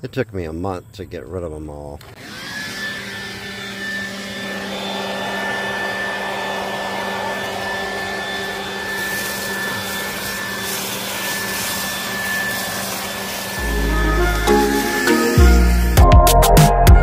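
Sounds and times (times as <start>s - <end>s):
leaf blower running: 2.0s - 16.1s.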